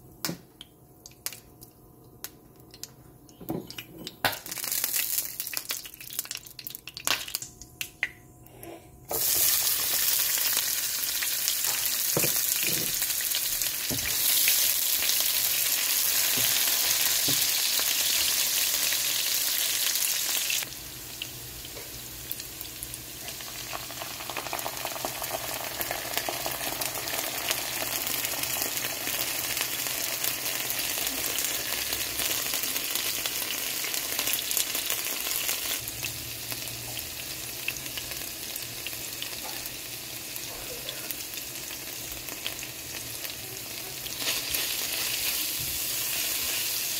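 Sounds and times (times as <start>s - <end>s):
onions sizzling in oil: 9.1s - 46.9s.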